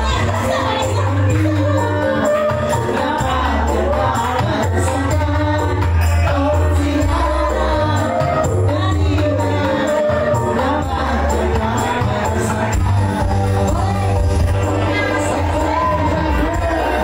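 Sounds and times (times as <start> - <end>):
bass guitar: 0.0 - 17.0
man singing into microphone: 0.0 - 17.0
steady drum beat: 0.0 - 17.0.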